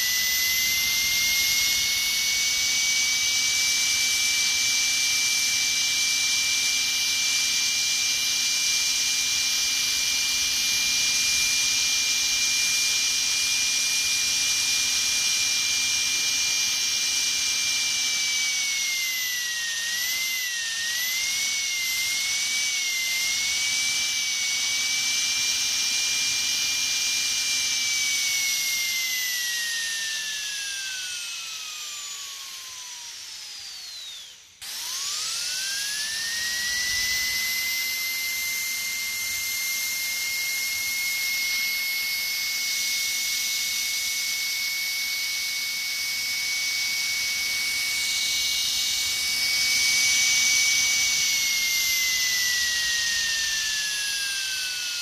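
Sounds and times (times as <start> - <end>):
dentist's drill whining: 0.0 - 55.0.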